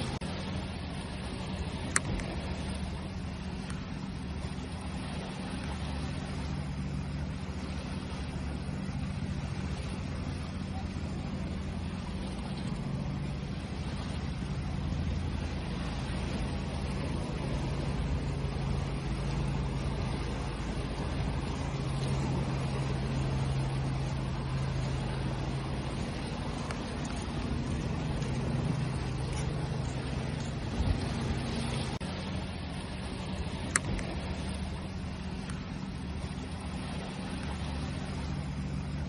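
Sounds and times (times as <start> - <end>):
low steady hum: 0.0 - 39.0
ocean waves: 0.0 - 39.0.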